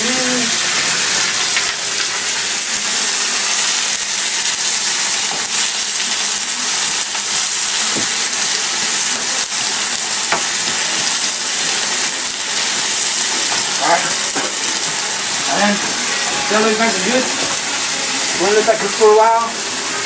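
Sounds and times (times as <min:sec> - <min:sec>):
tortillas sizzling in hot oil: 0:00.0 - 0:20.0.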